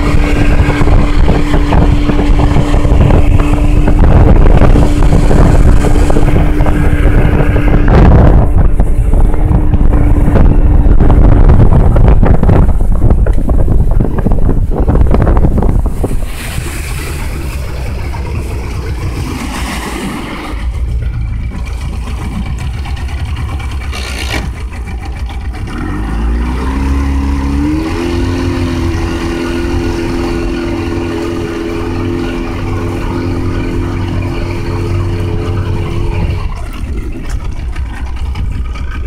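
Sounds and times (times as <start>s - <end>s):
outboard motor running: 0.0s - 39.0s
wind and water rushing: 0.0s - 39.0s.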